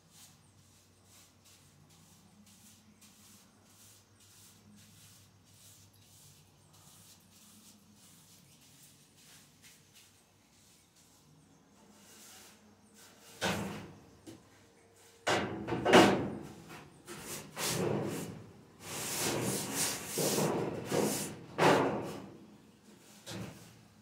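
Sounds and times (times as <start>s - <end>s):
broom sweeping floor: 0.0s - 14.0s, 14.9s - 24.0s.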